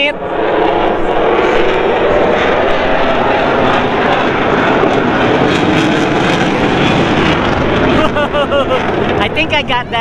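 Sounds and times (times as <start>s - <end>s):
military aircraft engine: 0.0s - 10.0s.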